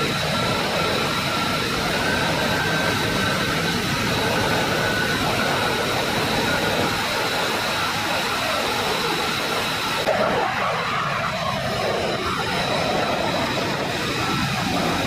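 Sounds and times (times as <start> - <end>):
high engine whine: 0.0 - 15.0
jet engines rushing: 0.0 - 15.0.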